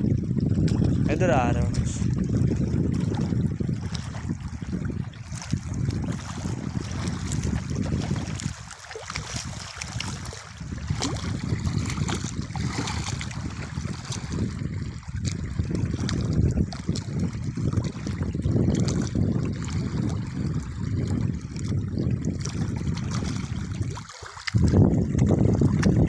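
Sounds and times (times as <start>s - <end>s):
water lapping and trickling: 0.0s - 26.0s
wind buffeting microphone: 0.0s - 26.0s.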